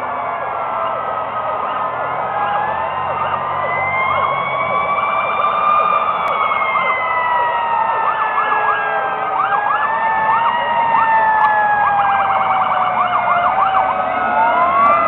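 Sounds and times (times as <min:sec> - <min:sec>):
siren yelp sweeps: 0:00.0 - 0:15.0
sirens wailing: 0:00.0 - 0:15.0.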